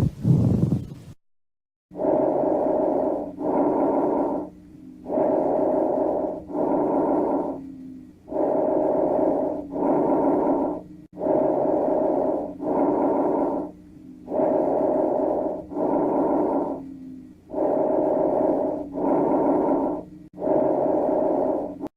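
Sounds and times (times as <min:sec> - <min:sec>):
hissing breath sounds: 0:02.0 - 0:21.9.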